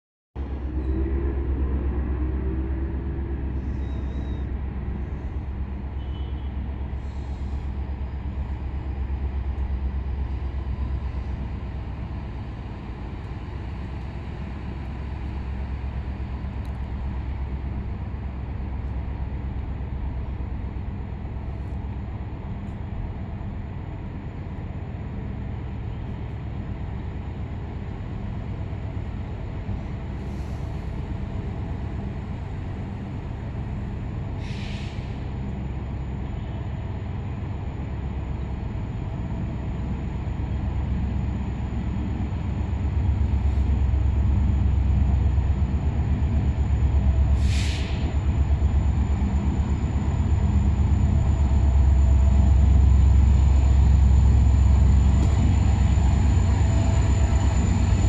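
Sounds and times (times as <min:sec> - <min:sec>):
diesel locomotive rumbling: 0:00.4 - 0:58.0.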